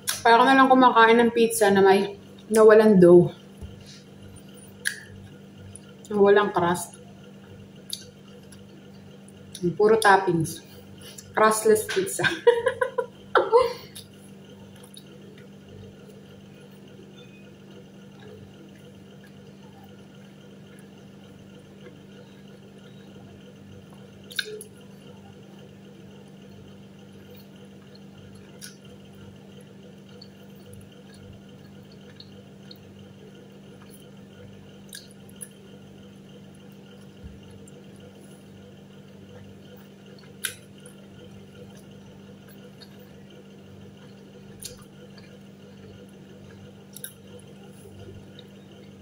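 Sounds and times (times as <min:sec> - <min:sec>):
low hum of room tone: 0:00.0 - 0:49.0.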